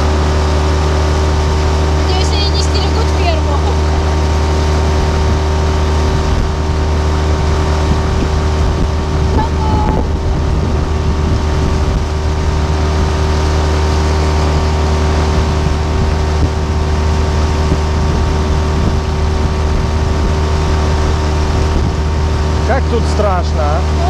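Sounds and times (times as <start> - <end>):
outboard motor droning: 0.0 - 24.0.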